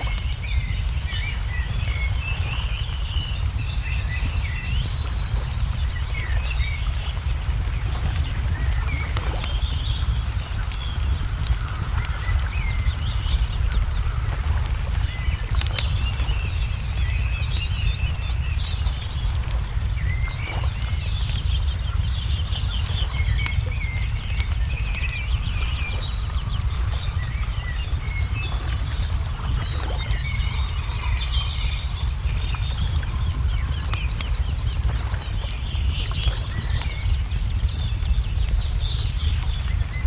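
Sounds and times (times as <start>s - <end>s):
songbirds chirping: 0.0s - 40.0s
steady low rumble: 0.0s - 40.0s
wood fire crackling: 0.0s - 40.0s.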